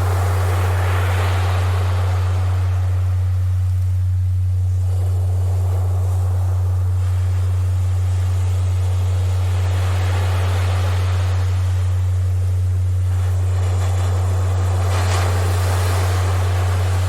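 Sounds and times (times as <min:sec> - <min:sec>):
ocean surf: 0:00.0 - 0:03.9, 0:04.6 - 0:17.0
steady low-pitched tone: 0:00.0 - 0:17.0.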